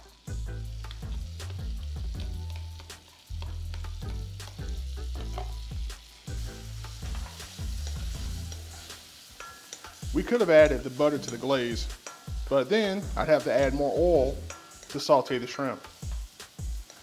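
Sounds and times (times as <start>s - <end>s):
shrimp sizzling and crackling in butter: 0.0s - 17.0s.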